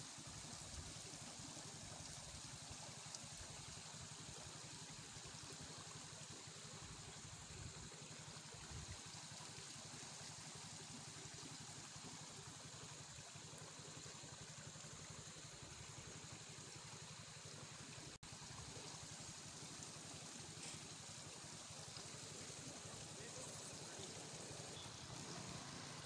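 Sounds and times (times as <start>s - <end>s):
stream trickling over rocks: 0.0s - 26.0s.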